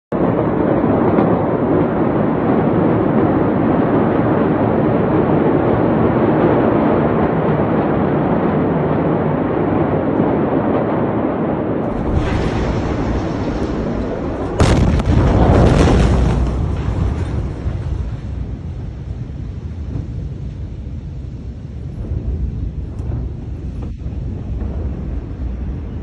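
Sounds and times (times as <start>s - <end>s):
loud steady rushing noise: 0.1s - 26.0s.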